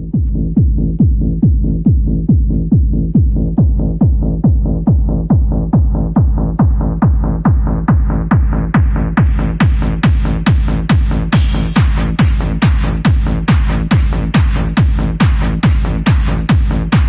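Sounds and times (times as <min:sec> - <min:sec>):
held bass line: 0:00.0 - 0:17.0
techno kick drum: 0:00.0 - 0:17.0.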